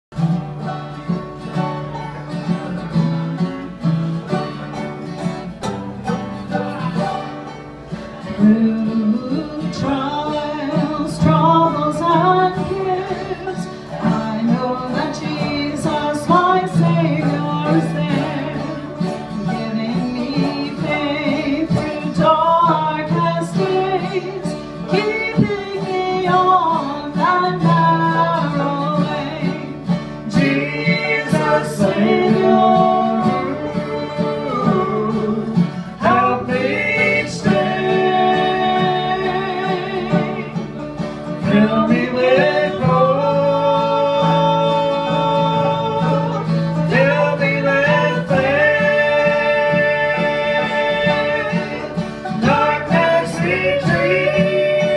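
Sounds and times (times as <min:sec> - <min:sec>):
bluegrass string band playing: 0:00.1 - 0:54.9
woman and man singing together: 0:08.2 - 0:54.9.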